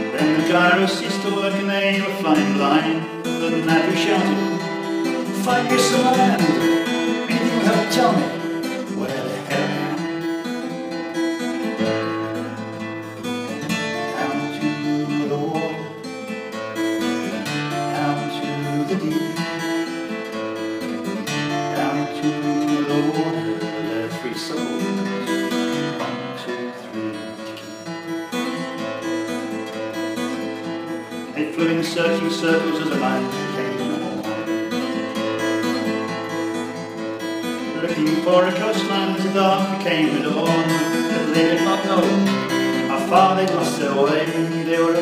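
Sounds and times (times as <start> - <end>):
acoustic guitar strumming: 0.0 - 45.0.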